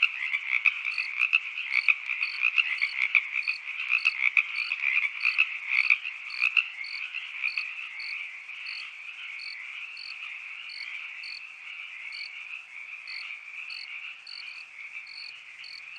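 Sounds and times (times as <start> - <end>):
cricket chirping: 0.0 - 15.9
frogs calling: 0.0 - 15.9.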